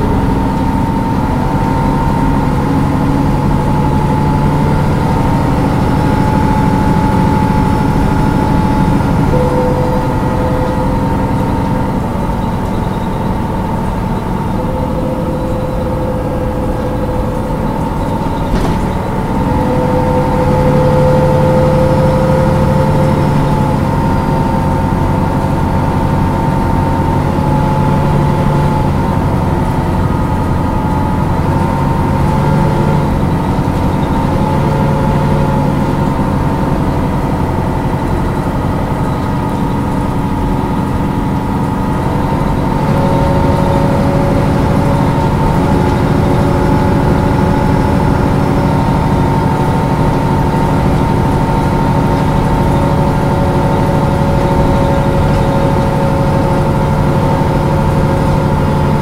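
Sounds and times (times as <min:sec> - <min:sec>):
bus diesel engine droning: 0:00.0 - 0:59.0
engine whine: 0:00.0 - 0:59.0
low hum: 0:00.0 - 0:59.0.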